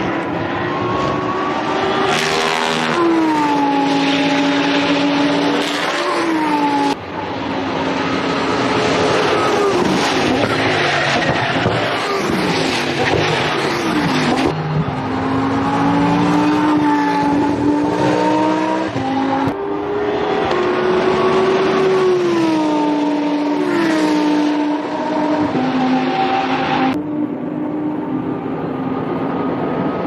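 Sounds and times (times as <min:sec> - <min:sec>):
race car engine revving: 0:00.0 - 0:27.4.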